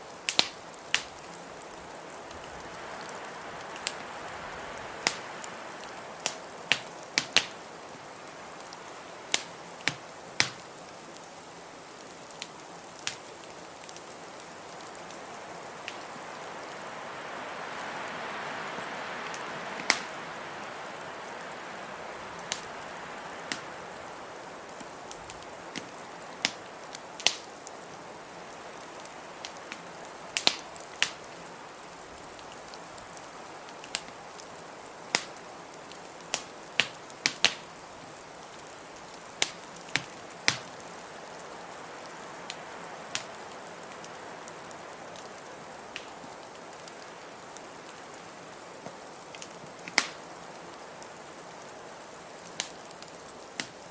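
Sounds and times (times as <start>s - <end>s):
blizzard wind hiss: 0.0s - 53.9s
wood fire crackling: 0.0s - 53.9s.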